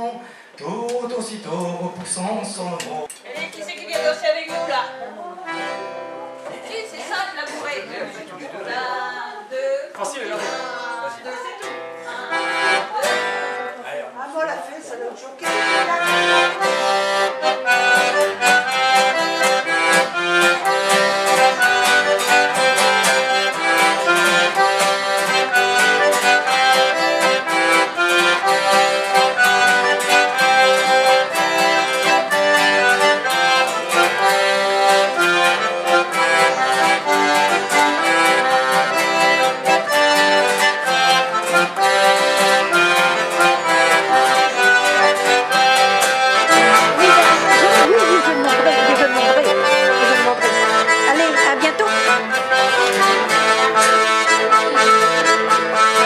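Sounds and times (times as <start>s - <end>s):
acoustic guitar accompaniment: 0.0s - 56.0s
accordion dance tune: 3.9s - 7.5s, 11.6s - 13.9s, 15.4s - 56.0s.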